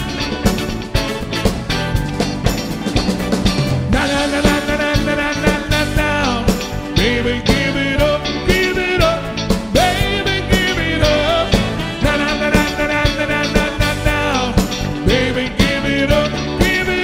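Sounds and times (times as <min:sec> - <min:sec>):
bass guitar: 0:00.0 - 0:17.0
drum kit beat: 0:00.0 - 0:17.0
sliding lead melody: 0:00.0 - 0:17.0.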